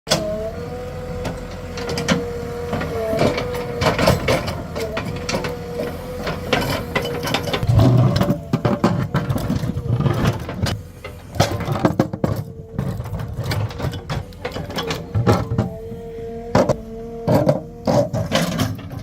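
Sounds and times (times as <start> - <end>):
backhoe loader mechanical whine: 0.1 - 19.0
knocks and clanks: 1.1 - 15.9, 16.5 - 19.0
heavy low rumble: 2.6 - 19.0.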